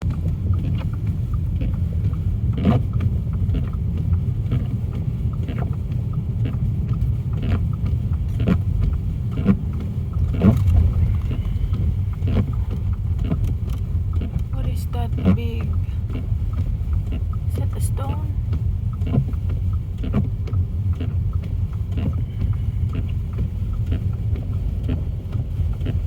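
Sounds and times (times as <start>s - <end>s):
car road and engine rumble: 0.0s - 26.0s
sharp ticks against car: 0.0s - 26.0s.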